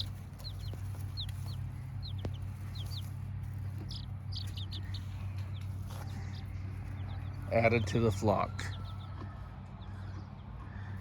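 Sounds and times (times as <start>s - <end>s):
baby chicks peeping: 0.0s - 11.0s
steady low hum: 0.0s - 11.0s.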